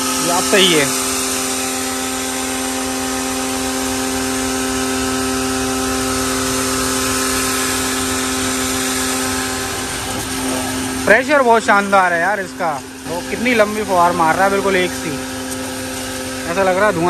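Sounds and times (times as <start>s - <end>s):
pressure washer motor hum: 0.0s - 17.0s
water spray hissing: 0.0s - 17.0s.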